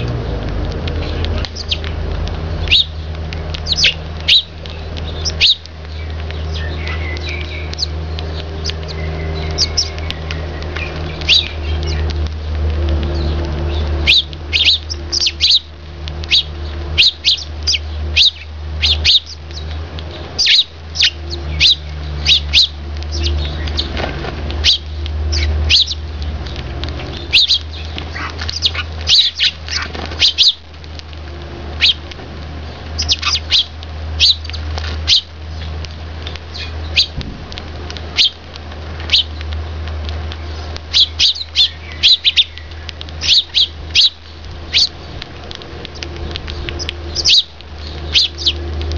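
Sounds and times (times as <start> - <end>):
sparrows chirping: 0.0 - 48.9
steady low hum: 0.0 - 48.9.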